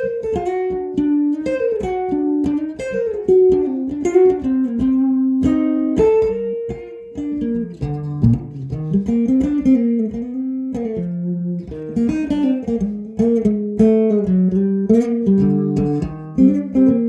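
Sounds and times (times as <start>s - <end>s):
electric guitar picked notes: 0.0s - 17.0s.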